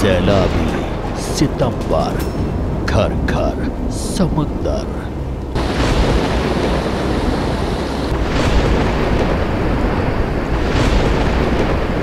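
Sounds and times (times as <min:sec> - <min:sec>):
floodwater rushing: 0:00.0 - 0:12.0
wind: 0:00.0 - 0:12.0.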